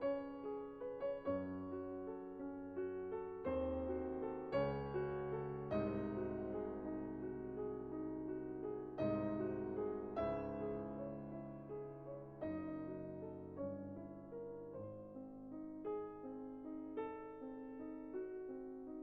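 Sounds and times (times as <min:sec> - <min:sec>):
slow solo piano music: 0:00.0 - 0:19.0.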